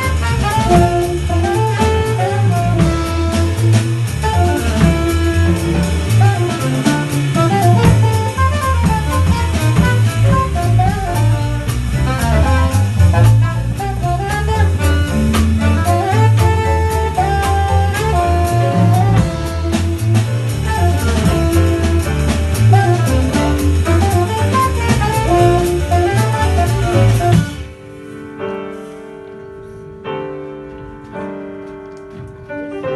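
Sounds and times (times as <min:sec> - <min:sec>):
saxophone: 0:00.0 - 0:27.7
walking bass: 0:00.0 - 0:28.2
drum kit with cymbals: 0:00.0 - 0:29.1
guitar: 0:00.0 - 0:32.9
piano: 0:00.0 - 0:32.9.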